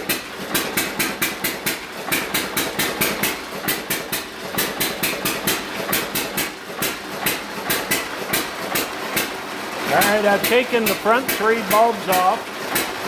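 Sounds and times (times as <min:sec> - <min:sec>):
gas engine firing rhythmically: 0:00.0 - 0:13.0.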